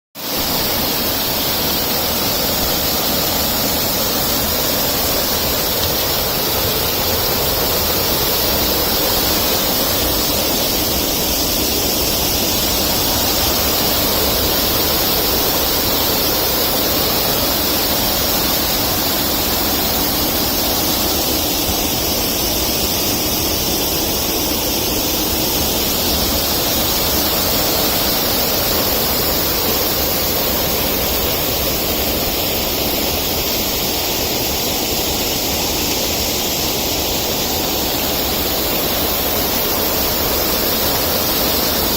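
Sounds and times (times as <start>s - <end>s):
waterfall roaring: 0.2s - 41.9s.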